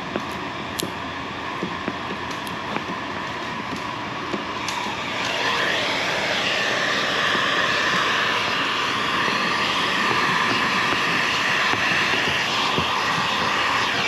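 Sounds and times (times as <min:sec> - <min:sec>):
heat gun blowing: 0:01.6 - 0:14.0.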